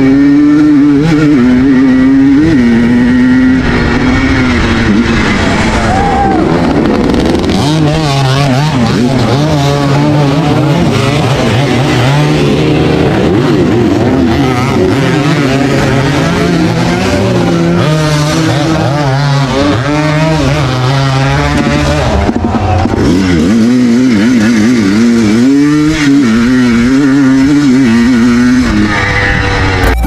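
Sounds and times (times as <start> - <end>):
racing motorcycle engines: 0.0 - 30.0.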